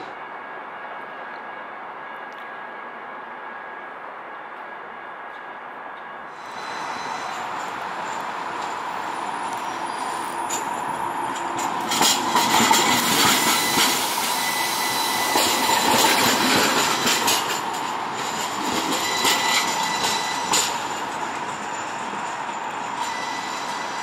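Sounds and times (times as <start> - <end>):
streetcar rolling on rails: 0.0 - 24.0.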